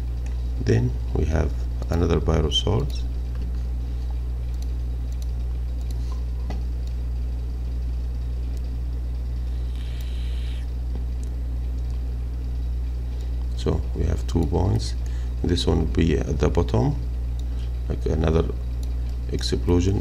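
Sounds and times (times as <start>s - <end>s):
low microphone hum: 0.0s - 20.0s.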